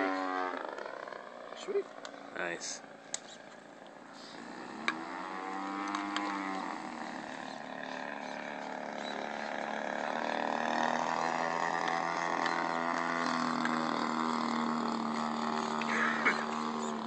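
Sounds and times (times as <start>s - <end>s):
model airplane engine flying overhead: 0.0s - 17.0s.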